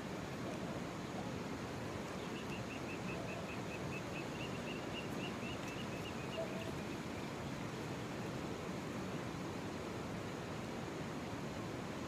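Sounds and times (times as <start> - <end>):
river flowing: 0.0 - 12.0.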